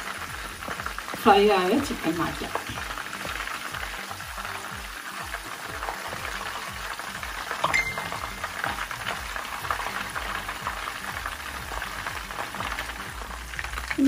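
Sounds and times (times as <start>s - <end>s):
hot oil bubbling and crackling: 0.0s - 14.0s.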